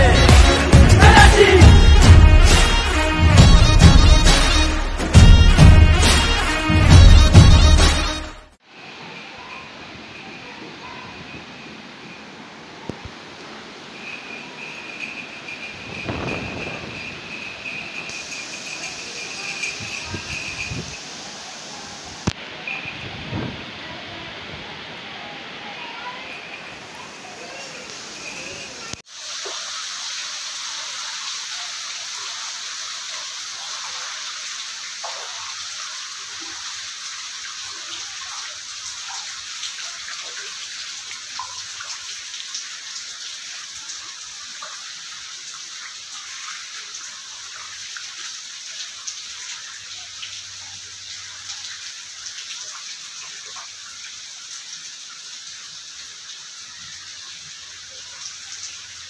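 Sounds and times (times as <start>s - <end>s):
rain falling into floodwater: 8.6s - 59.0s.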